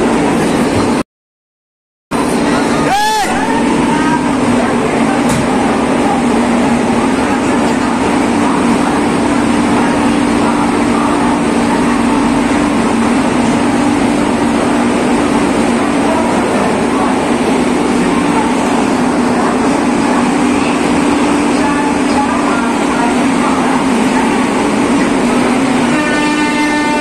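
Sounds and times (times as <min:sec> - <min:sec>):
crowd voices: 0:02.2 - 0:26.1
electric train humming: 0:02.2 - 0:27.0.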